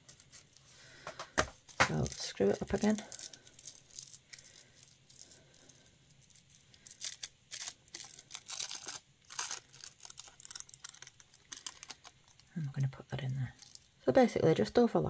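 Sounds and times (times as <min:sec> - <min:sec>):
plastic film crinkling: 0:00.0 - 0:00.7, 0:01.4 - 0:12.8, 0:13.5 - 0:14.0.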